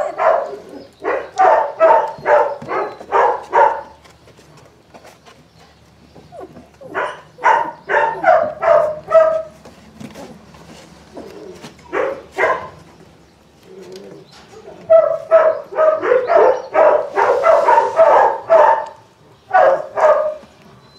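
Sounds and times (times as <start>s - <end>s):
puppies crying: 0.0s - 4.0s, 6.0s - 12.9s, 13.6s - 20.9s.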